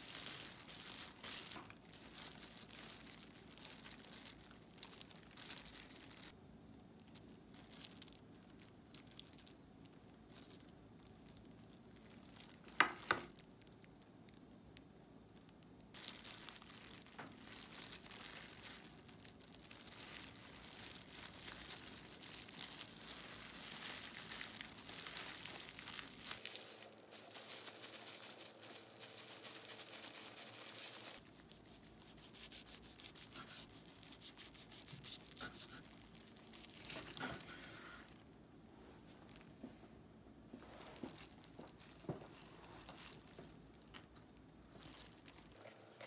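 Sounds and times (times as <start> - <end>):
plastic gloves crinkling: 0.0 - 46.0.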